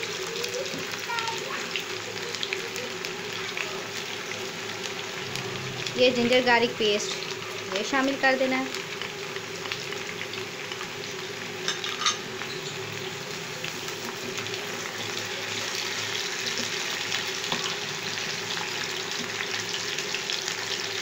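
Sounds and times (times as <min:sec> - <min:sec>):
potatoes and onion sizzling in oil: 0:00.0 - 0:21.0.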